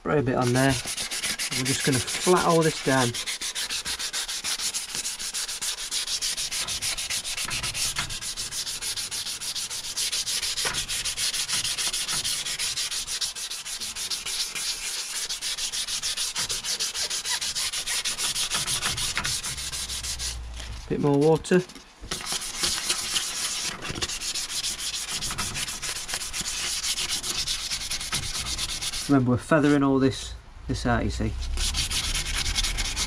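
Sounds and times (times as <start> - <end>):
sandpaper rubbing on metal rim: 0.4 - 21.4, 22.1 - 29.9, 31.3 - 33.0.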